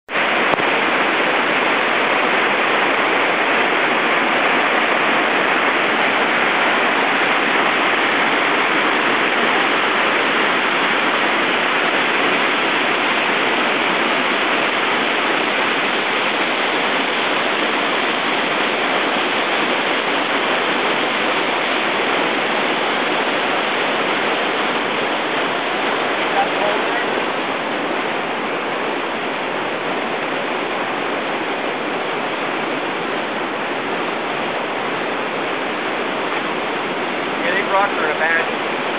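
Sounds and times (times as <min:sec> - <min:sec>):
whitewater rushing: 0:00.1 - 0:38.9.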